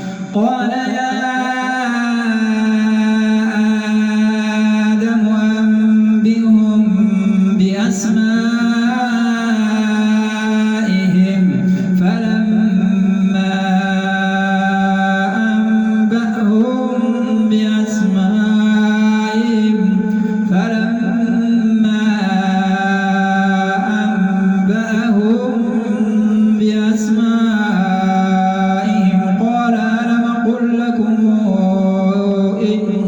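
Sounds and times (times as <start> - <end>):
man chanting: 0.0 - 33.0.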